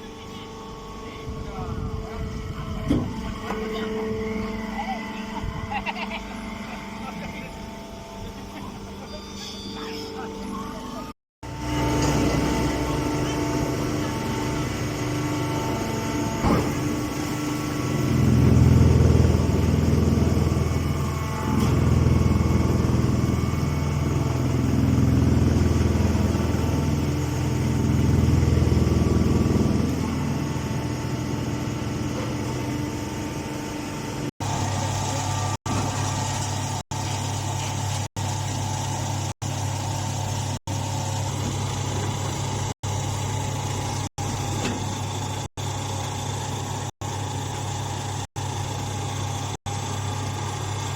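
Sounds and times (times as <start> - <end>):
baler machine humming: 0.0 - 50.9.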